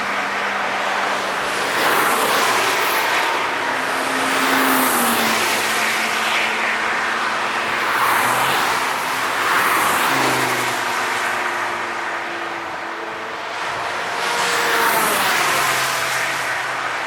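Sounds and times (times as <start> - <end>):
race cars passing at speed: 0.0 - 17.0.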